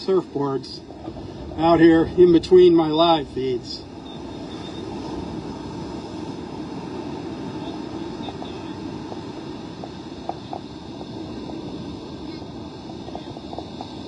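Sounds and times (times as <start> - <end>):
muffled rumble of wind and surf: 0.0 - 14.0.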